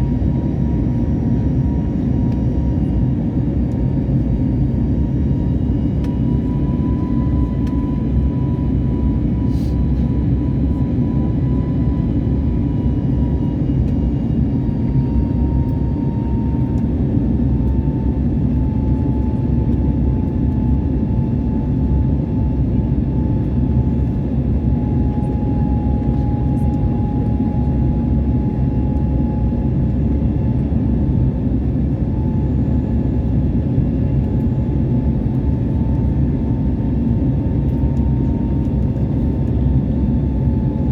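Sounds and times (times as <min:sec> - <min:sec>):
jet engines rumbling with whine: 0:00.0 - 0:40.9.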